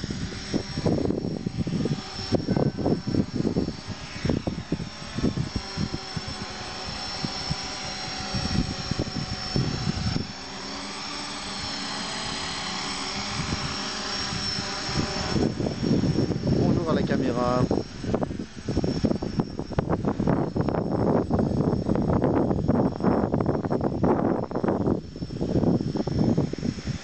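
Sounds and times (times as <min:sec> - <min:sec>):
drone motors whirring: 0:00.0 - 0:27.0
wind buffeting microphone: 0:00.0 - 0:27.0.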